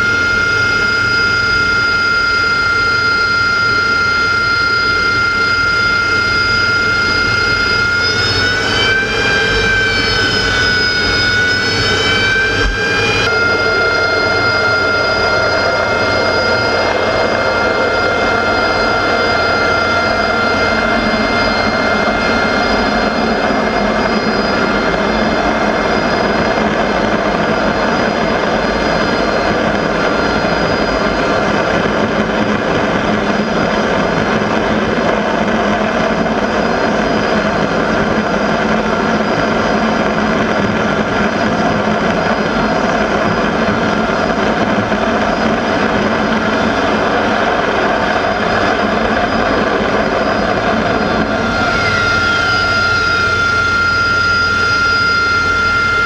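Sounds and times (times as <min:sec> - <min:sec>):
jet engine roaring with whine: 0:00.0 - 0:56.0.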